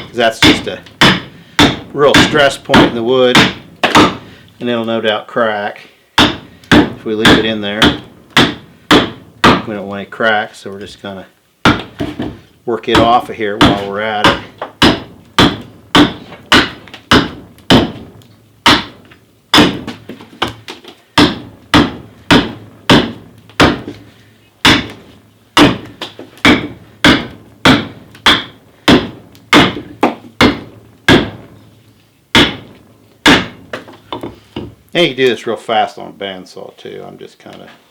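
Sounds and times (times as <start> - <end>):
axe chopping wood: 0.0 - 4.3, 6.2 - 9.7, 11.6 - 31.7, 32.3 - 34.8.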